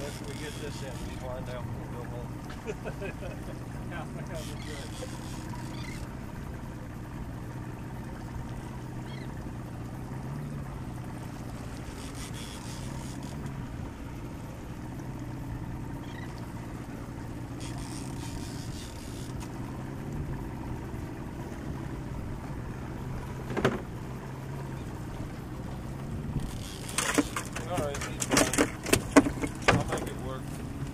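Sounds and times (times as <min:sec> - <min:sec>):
outboard motor running: 0:00.0 - 0:30.9.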